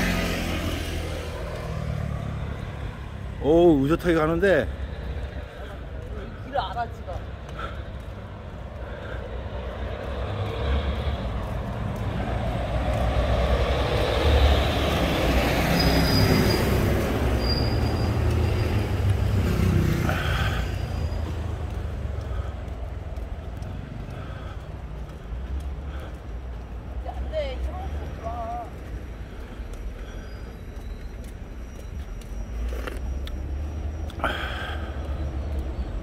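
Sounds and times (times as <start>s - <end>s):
vehicle passing by: 0.0s - 6.4s, 7.1s - 30.3s.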